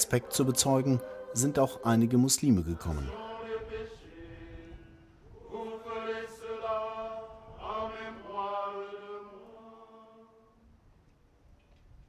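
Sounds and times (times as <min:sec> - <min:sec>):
voices chanting long notes: 0:00.0 - 0:10.6.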